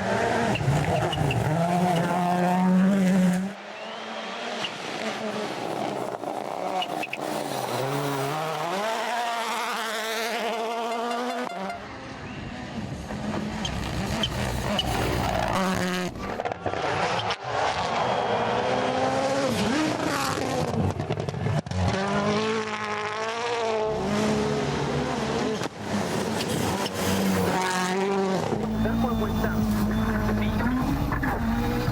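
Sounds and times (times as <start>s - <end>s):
rally car engines revving: 0.0s - 31.9s.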